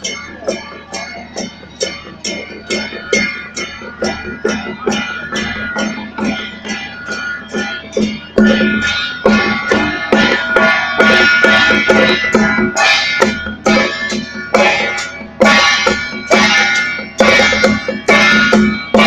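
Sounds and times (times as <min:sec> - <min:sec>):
drum gongs and cymbals: 0:00.0 - 0:19.0.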